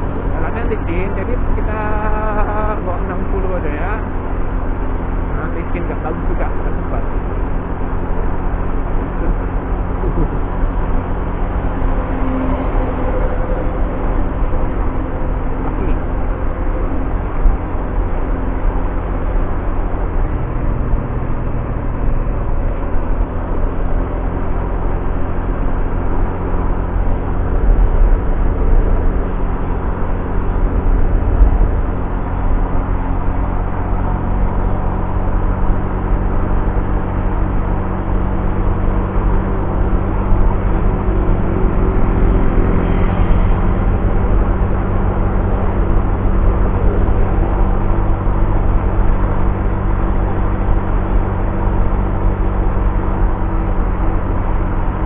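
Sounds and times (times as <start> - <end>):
scooter engine running: 3.8 - 55.0.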